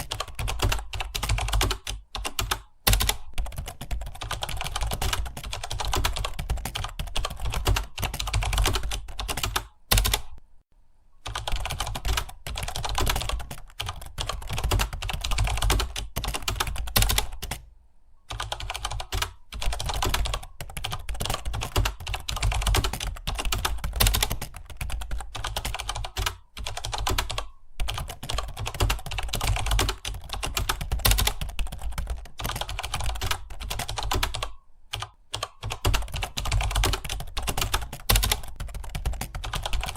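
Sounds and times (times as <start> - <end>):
fast keyboard typing: 0.0 - 10.4, 11.2 - 17.7, 18.3 - 39.9.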